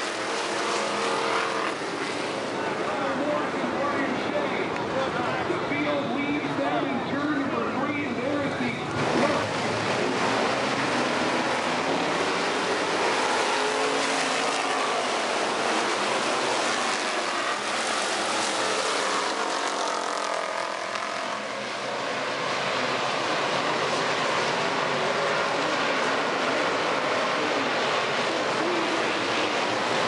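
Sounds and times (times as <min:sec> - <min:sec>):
many race car engines passing: 0:00.0 - 0:30.0.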